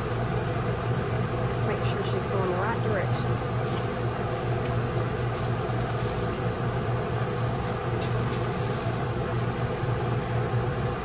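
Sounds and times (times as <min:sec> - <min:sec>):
cellophane sleeve crinkling: 0:00.0 - 0:02.2, 0:03.1 - 0:11.0
steady low hum: 0:00.0 - 0:11.0.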